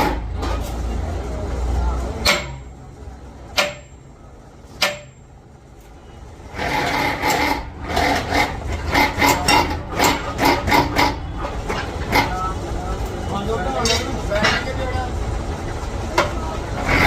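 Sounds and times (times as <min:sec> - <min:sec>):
choppy workshop sound: 0:00.0 - 0:17.0.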